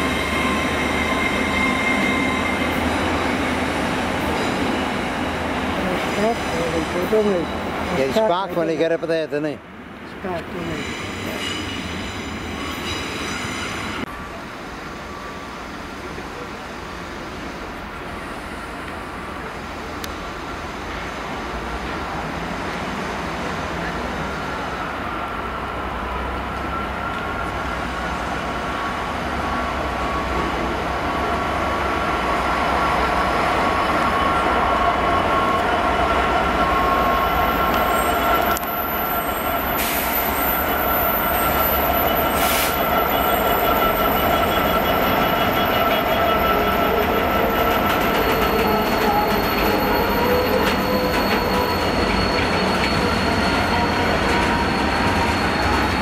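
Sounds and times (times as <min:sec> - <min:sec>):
train wheel squeal: 0:00.0 - 0:08.9, 0:10.5 - 0:16.5, 0:23.8 - 0:56.0
diesel locomotive engine: 0:00.0 - 0:56.0.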